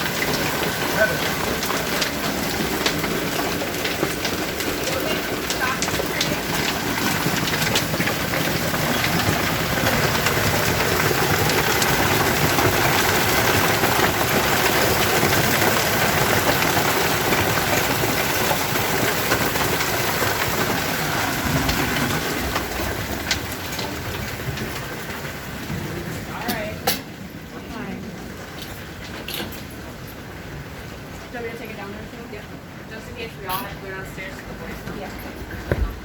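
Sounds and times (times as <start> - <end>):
heavy hail falling: 0.0 - 36.0.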